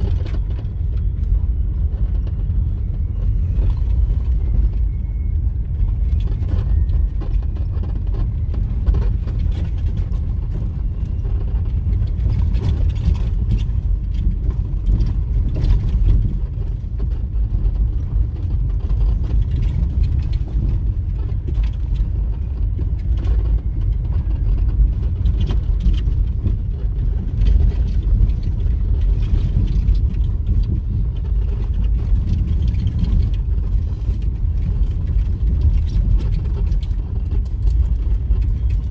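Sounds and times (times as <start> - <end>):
vehicle road rumble: 0.0 - 38.9.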